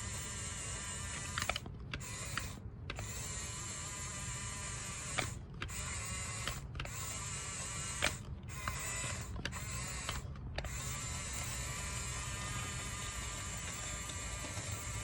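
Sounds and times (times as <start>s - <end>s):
toy gear motors whirring: 0.0s - 15.0s.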